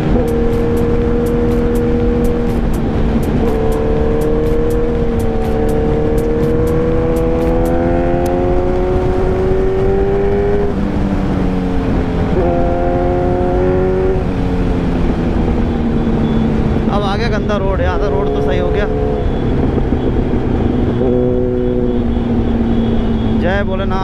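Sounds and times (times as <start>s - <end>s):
wind rushing over microphone: 0.0s - 23.4s
motorcycle engine accelerating: 0.0s - 24.0s.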